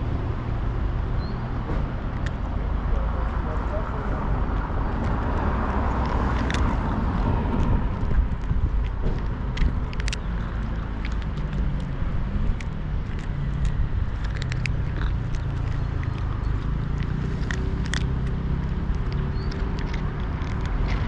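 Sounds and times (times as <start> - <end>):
steady low rumble: 0.0 - 21.0
cat chewing food: 2.2 - 21.0.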